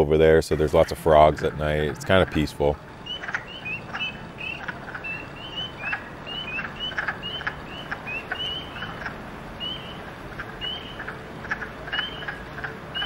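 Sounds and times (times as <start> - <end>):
frogs clucking: 0.0 - 13.0
frogs peeping: 0.0 - 13.0.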